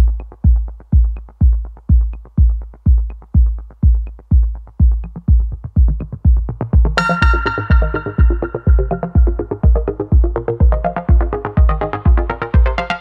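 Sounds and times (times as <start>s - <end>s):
music with heavy bass beat: 0.0s - 13.0s.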